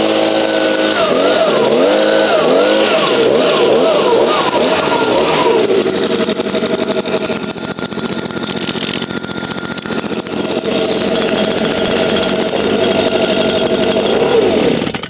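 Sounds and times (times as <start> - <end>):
small petrol engine running: 0.0 - 15.0.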